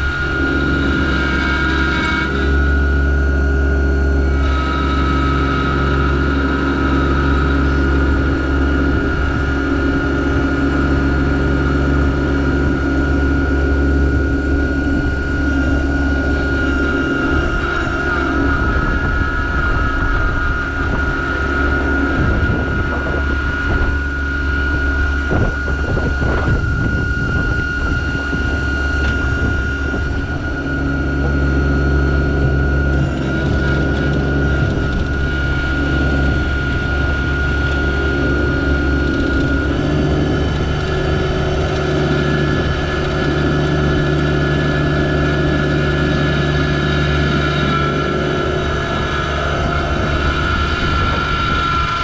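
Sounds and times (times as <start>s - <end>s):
high whine: 0.0s - 52.0s
tractor diesel engine running: 0.0s - 52.0s.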